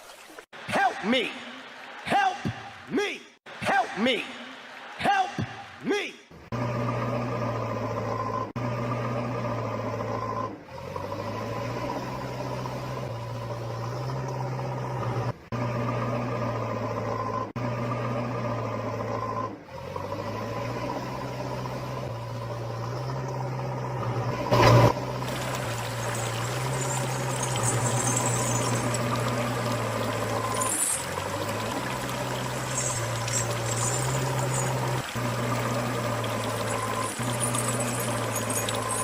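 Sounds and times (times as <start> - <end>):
vehicle engine humming: 6.4 - 39.0.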